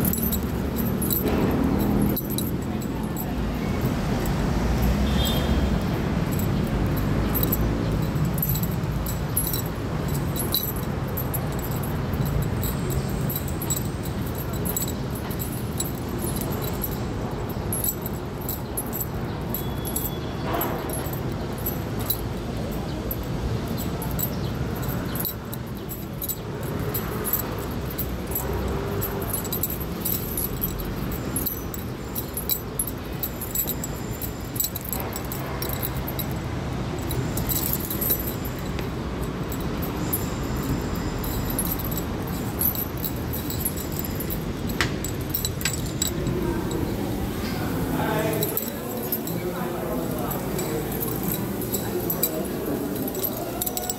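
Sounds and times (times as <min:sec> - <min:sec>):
traffic rumble: 0:00.0 - 0:53.9.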